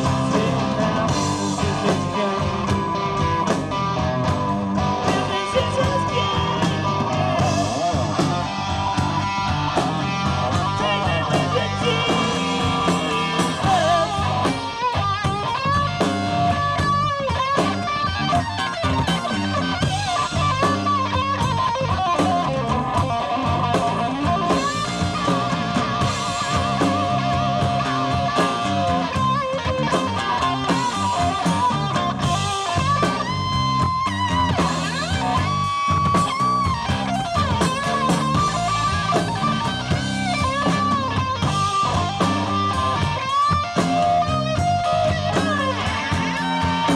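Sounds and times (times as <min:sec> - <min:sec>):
bass: 0:00.0 - 0:46.9
drums: 0:00.0 - 0:46.9
electric guitar solo: 0:00.0 - 0:46.9.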